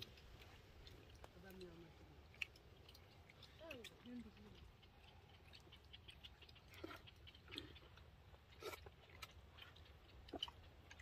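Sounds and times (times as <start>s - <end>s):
people chewing and crunching food: 0.0s - 11.0s.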